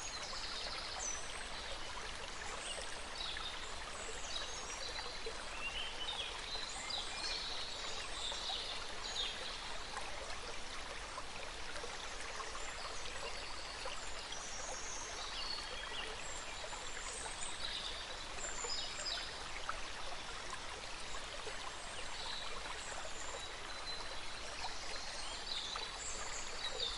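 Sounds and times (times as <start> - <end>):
stream water flowing: 0.0 - 26.9.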